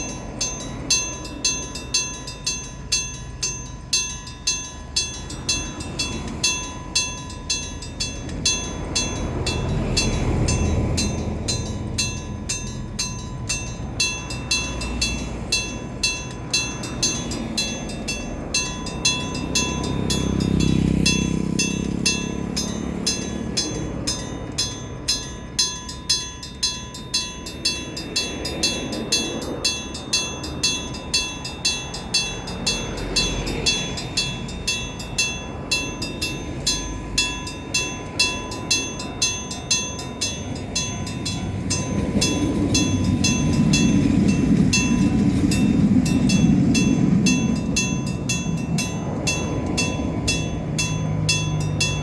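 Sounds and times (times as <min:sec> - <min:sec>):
level crossing bell ringing: 0:00.0 - 0:52.0
low rumble of passing train: 0:00.0 - 0:52.0.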